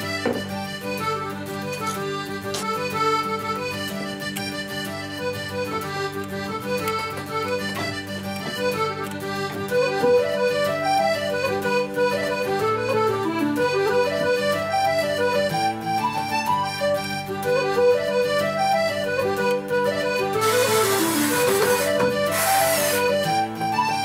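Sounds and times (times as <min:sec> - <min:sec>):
instrumental music with light beat: 0:00.0 - 0:24.0.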